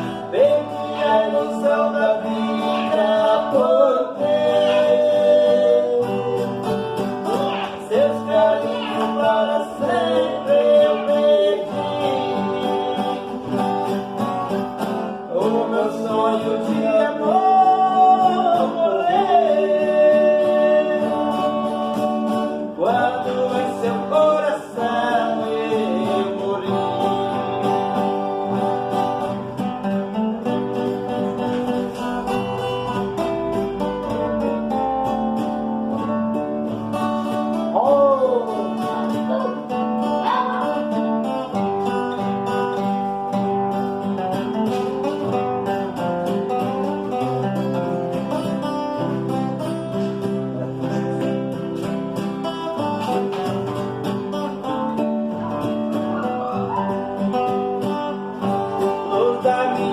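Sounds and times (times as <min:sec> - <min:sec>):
plucked acoustic guitars: 0:00.0 - 0:59.9.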